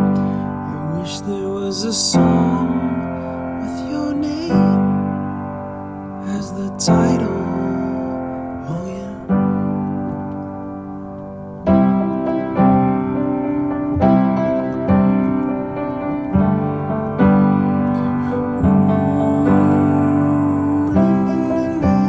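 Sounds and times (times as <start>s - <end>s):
piano chords ringing: 0.0s - 22.0s.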